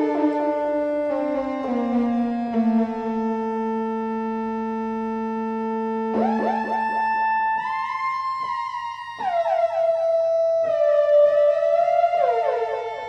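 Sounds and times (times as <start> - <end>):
synthesizer lead melody: 0.0 - 13.0.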